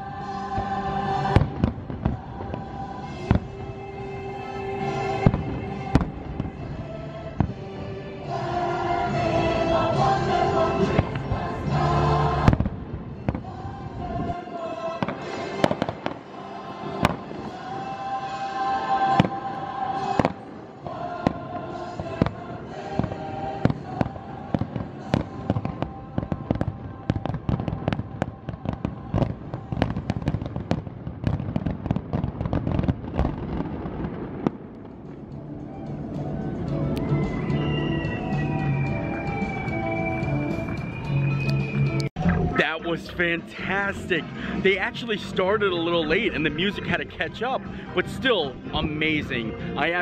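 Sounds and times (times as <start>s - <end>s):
music: 0.0s - 50.0s
fireworks bangs and crackles: 0.3s - 41.8s.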